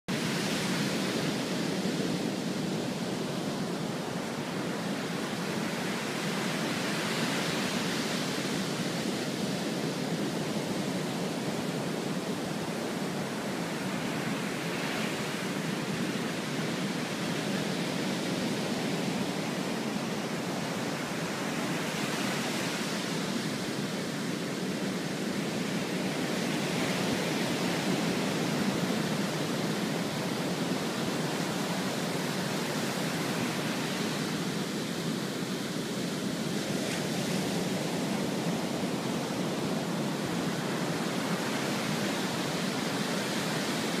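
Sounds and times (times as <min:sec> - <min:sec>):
surf washing onto beach: 0:00.1 - 0:44.0.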